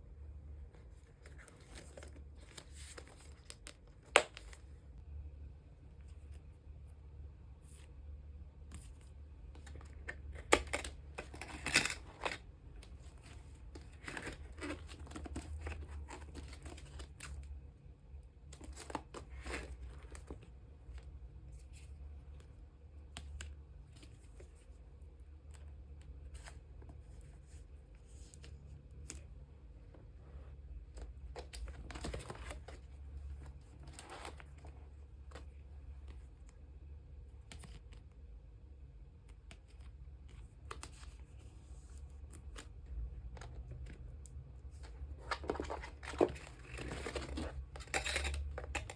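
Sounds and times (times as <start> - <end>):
plastic sleeves rustling: 0.4 - 4.9, 8.6 - 17.7, 18.4 - 36.6, 39.4 - 48.9.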